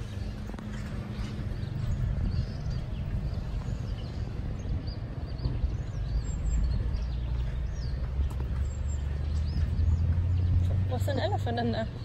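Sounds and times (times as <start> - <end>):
small birds chirping: 0.0 - 12.0
wind buffeting microphone: 0.0 - 12.0.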